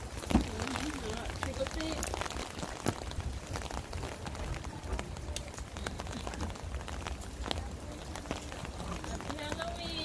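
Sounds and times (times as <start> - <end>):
rain falling: 0.0 - 10.0
raindrop ticks: 0.0 - 10.0.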